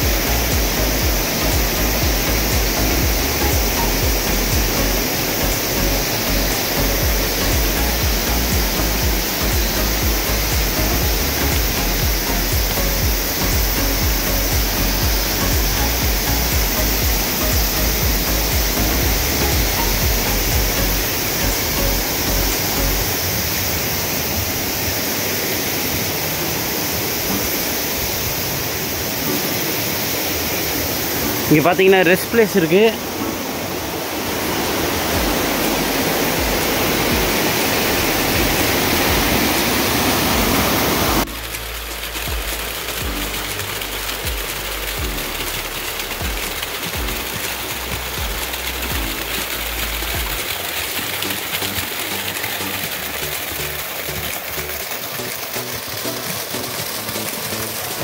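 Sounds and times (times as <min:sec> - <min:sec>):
fast-flowing river rushing: 0:00.0 - 0:58.0.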